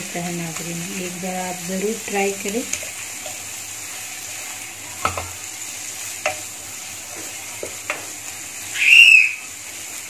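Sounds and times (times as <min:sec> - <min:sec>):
masala sizzling in a frying pan: 0:00.0 - 0:10.0.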